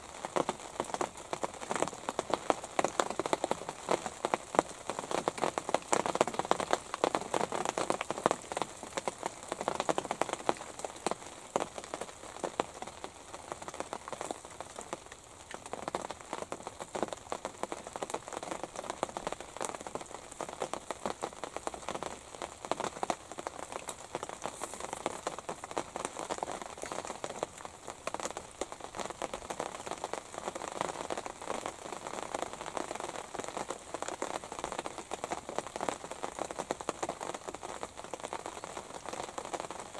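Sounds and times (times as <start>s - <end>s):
rain on fabric: 0.0s - 39.9s.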